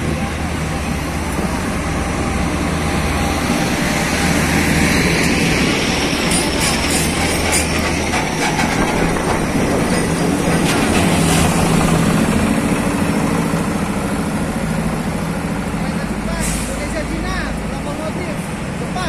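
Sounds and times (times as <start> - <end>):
diesel engine hum: 0.0 - 19.0
heavy trailer tyres rumbling: 0.0 - 19.0.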